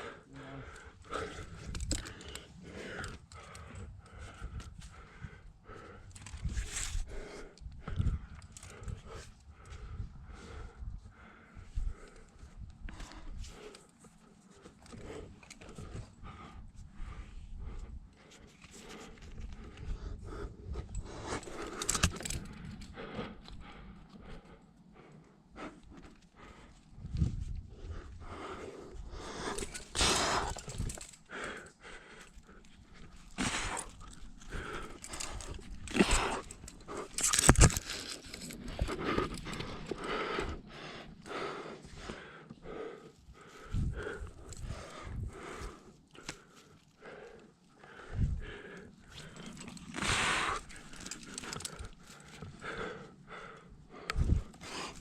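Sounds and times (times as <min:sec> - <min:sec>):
person breathing hard: 0:00.0 - 0:55.0.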